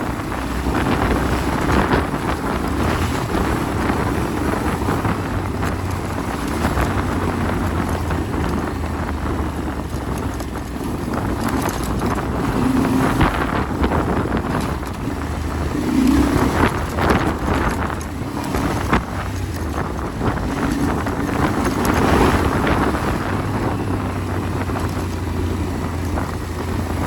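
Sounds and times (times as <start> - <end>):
motorcycle engine running: 0.0 - 27.0
wind on microphone: 0.0 - 27.0.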